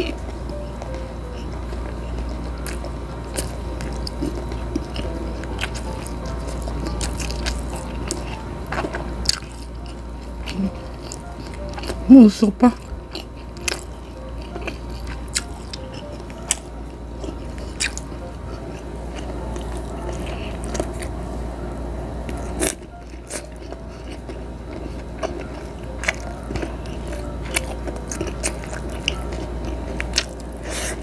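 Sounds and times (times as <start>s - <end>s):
chewing and biting: 0.0s - 12.1s, 12.7s - 21.2s, 22.2s - 31.0s
steady low hum: 0.0s - 31.0s.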